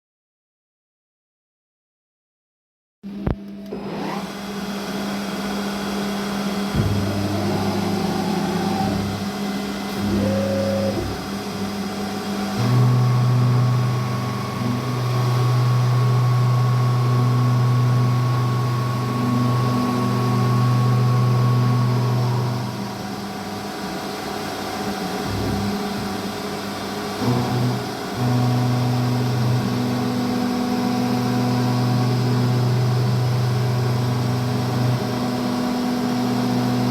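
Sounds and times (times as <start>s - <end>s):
milling machine humming: 3.2s - 36.9s.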